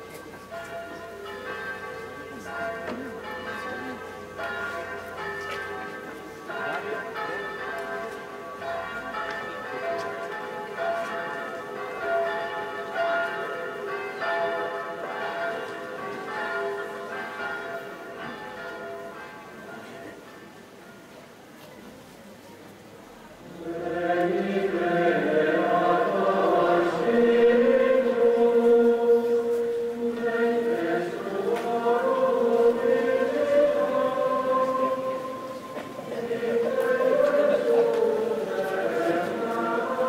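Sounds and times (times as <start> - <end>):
church bells ringing: 0.0 - 20.7, 23.6 - 40.0.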